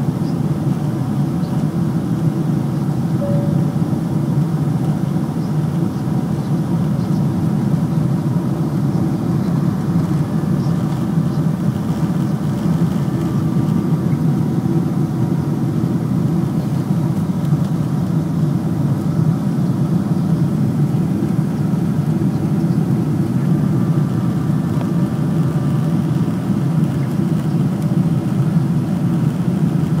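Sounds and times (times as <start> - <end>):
jet engines rumbling: 0.0 - 30.0.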